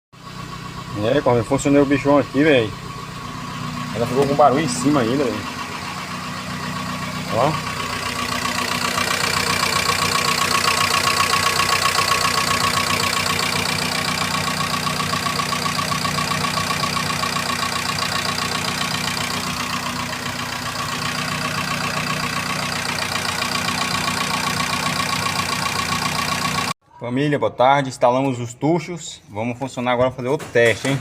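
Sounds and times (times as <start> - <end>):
car engine idling: 0.2 - 26.8
rapid engine tapping: 0.2 - 26.8.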